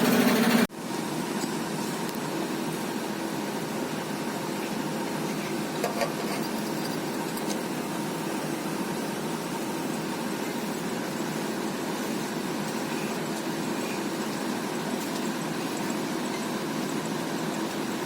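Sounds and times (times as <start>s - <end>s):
heavy machinery engine running: 0.0s - 18.0s.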